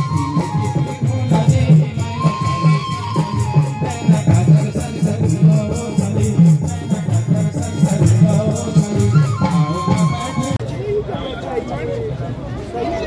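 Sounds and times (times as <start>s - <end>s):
drum beating: 0.0s - 10.6s.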